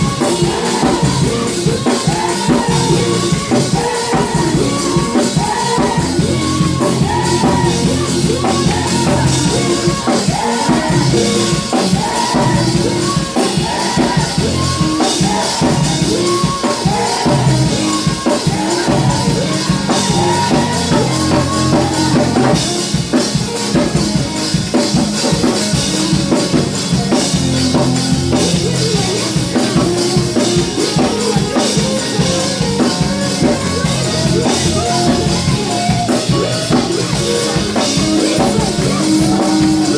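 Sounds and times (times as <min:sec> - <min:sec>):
bass guitar: 0:00.0 - 0:39.9
drum kit: 0:00.0 - 0:39.9
voices singing: 0:00.0 - 0:39.9.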